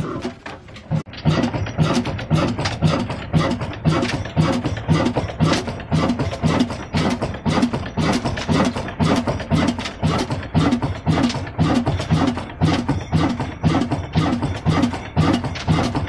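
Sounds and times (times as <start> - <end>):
slow diesel engine running: 0.0 - 16.0.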